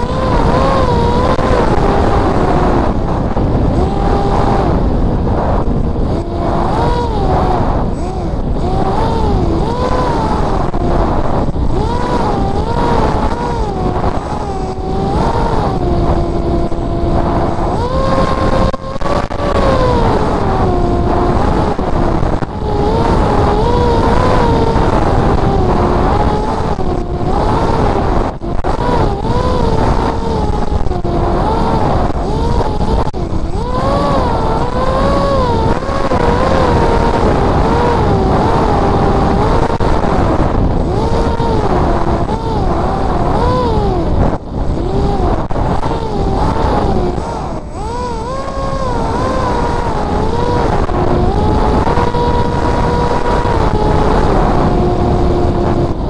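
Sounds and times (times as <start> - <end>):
electric motor and propeller whine: 0.0 - 56.0
wind rushing: 0.0 - 56.0.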